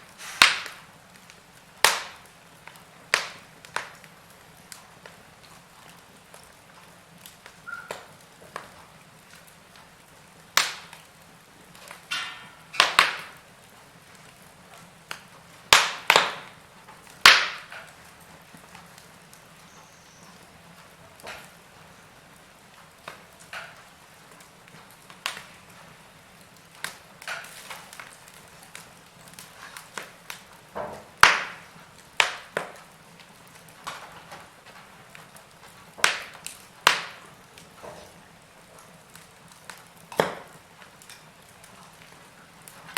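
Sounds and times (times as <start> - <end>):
log fire crackling: 0.0 - 42.9.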